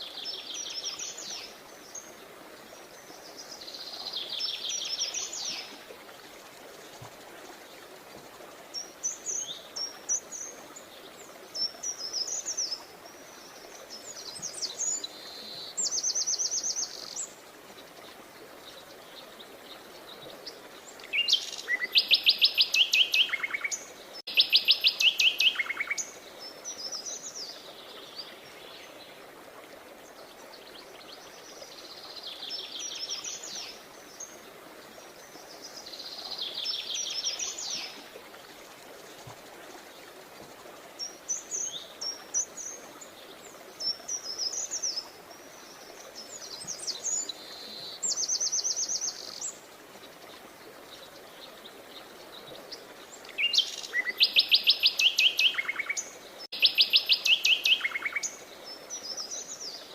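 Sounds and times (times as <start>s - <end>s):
faint steady hiss: 0.0s - 59.9s.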